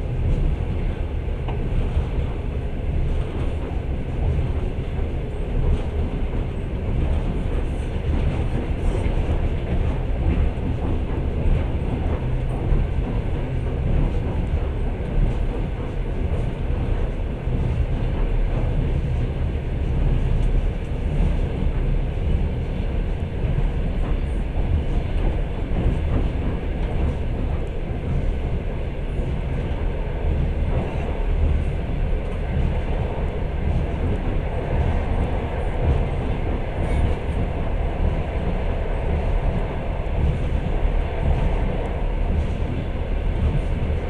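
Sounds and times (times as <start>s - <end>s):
train wheels on rails: 0.0s - 44.0s.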